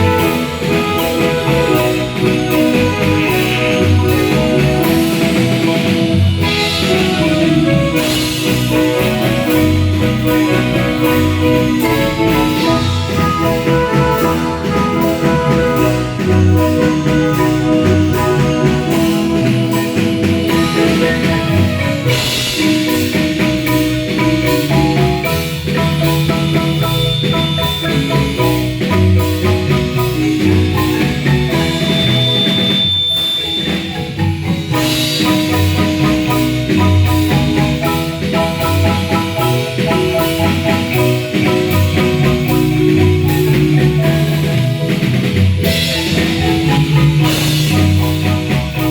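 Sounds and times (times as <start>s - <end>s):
marimba band playing: 0.0s - 48.9s.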